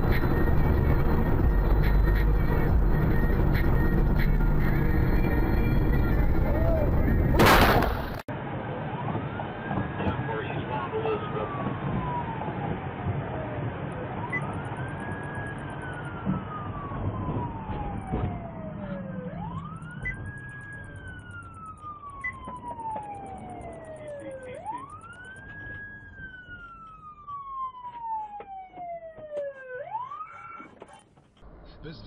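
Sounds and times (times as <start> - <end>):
rumbling engine and road noise: 0.0 - 30.2, 30.8 - 32.0
emergency vehicle siren wailing: 0.0 - 32.0.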